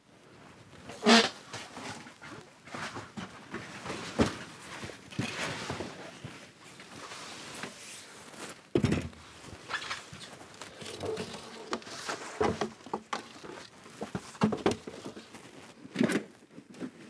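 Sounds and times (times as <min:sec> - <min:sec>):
canvas rustling: 0:00.3 - 0:17.0.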